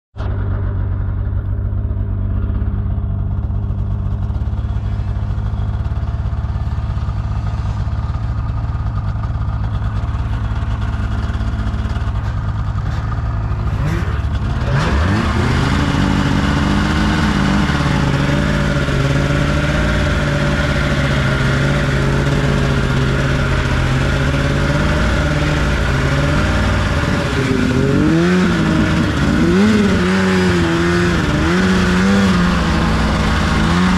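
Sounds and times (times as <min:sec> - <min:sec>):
off-road vehicle engine revving: 0:02.1 - 0:33.9.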